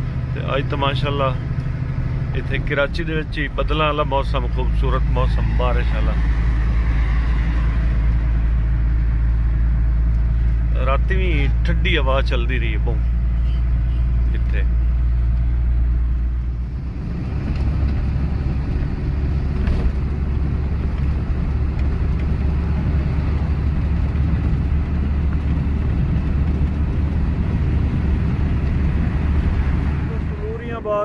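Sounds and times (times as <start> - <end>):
diesel truck engine drone: 0.0 - 31.0
tyre and road noise: 0.0 - 31.0.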